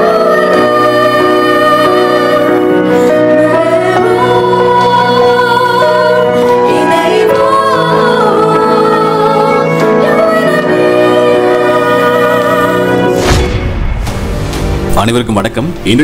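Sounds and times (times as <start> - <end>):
women singing together: 0.0 - 13.2.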